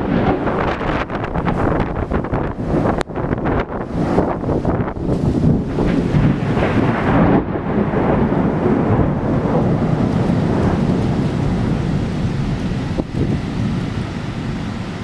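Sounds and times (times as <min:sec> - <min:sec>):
torrential rain pouring: 0:00.0 - 0:15.0.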